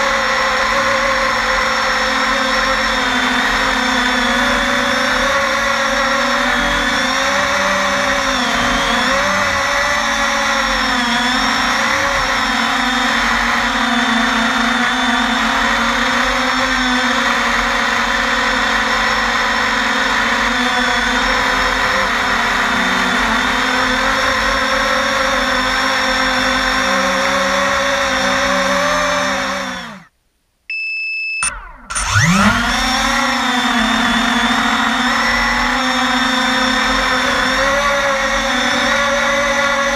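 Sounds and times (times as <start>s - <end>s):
quadcopter motors whining: 0.0s - 30.1s, 31.4s - 39.9s.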